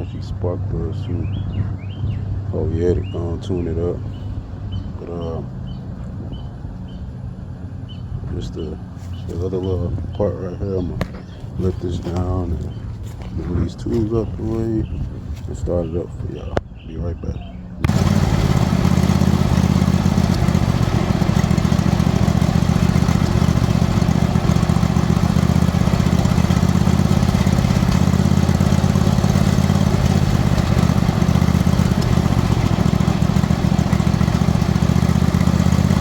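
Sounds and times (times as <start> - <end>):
riding mower engine running: 0.0 - 16.8, 17.6 - 36.0.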